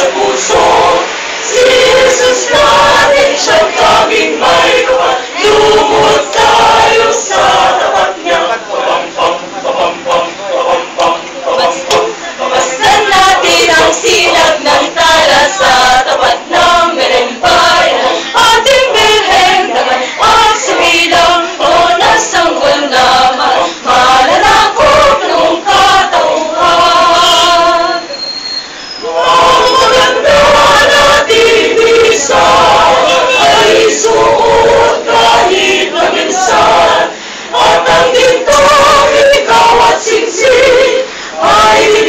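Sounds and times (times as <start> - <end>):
group singing in chorus: 0.0 - 28.2, 29.0 - 42.0.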